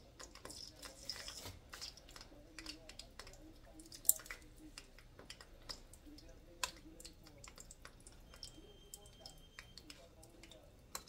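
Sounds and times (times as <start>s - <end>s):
oil crackling and popping: 0.0s - 11.0s.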